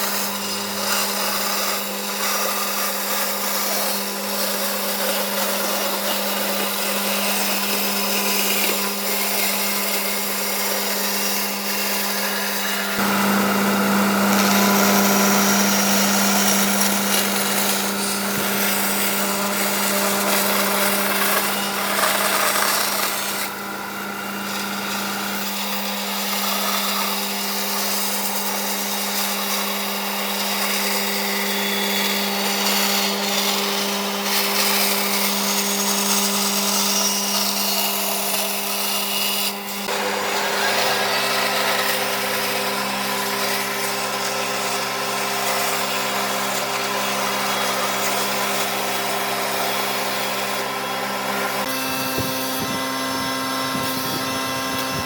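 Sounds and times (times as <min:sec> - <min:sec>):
electric power tool running: 0:00.0 - 0:55.0.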